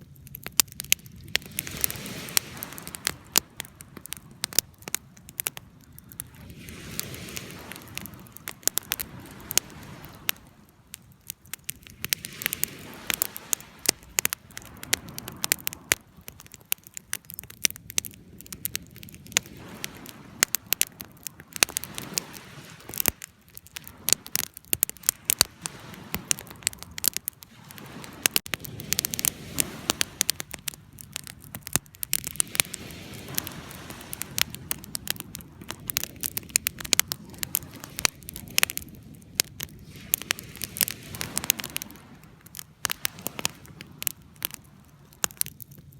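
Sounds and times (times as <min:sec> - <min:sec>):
fire crackling and popping: 0:00.0 - 0:45.9
flames rushing: 0:00.5 - 0:45.8.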